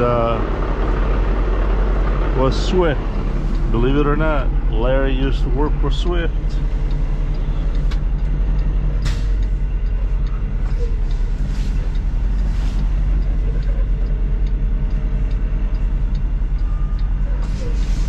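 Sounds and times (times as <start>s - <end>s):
diesel truck engine rumble: 0.0s - 18.0s.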